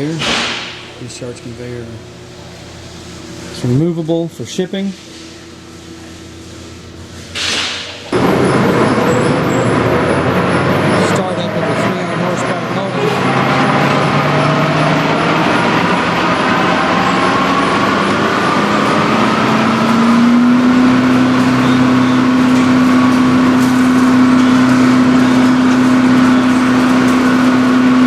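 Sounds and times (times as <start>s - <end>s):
electric motor hum: 0.0s - 28.0s
industrial grinder running: 0.0s - 28.0s.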